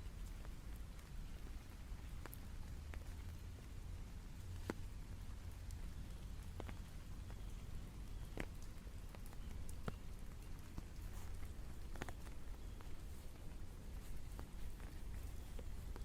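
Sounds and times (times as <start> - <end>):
raindrops ticking on hard surface: 0.0 - 16.0.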